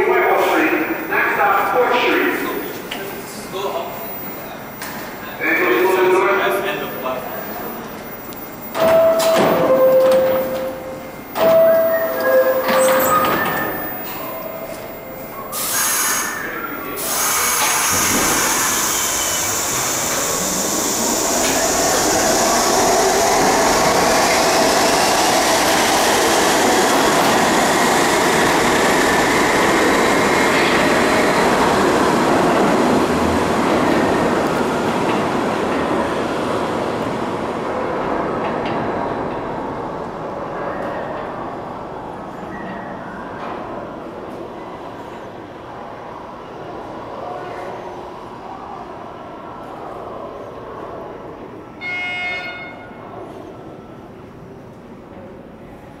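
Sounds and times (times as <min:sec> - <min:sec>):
subway train accelerating: 0:00.0 - 0:56.0.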